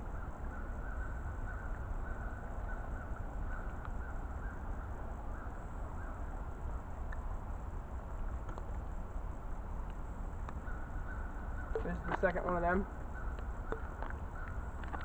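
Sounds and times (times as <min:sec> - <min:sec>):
faint bird calls: 0:00.0 - 0:07.3, 0:09.8 - 0:15.0
low outdoor rumble: 0:00.0 - 0:15.0.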